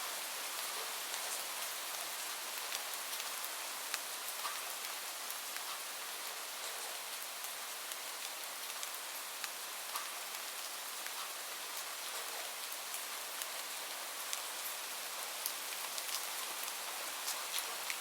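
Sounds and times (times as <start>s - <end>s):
rain falling on a surface: 0.0s - 18.0s.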